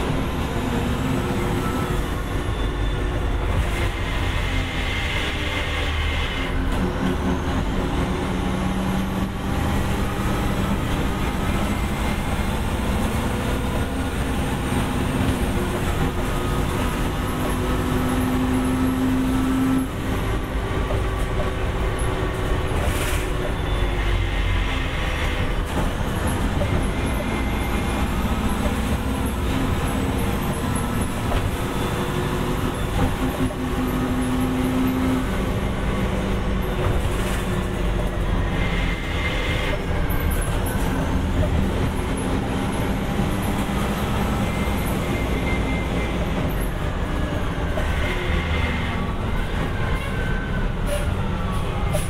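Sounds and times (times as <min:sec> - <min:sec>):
bus diesel engine droning: 0:00.0 - 0:52.0.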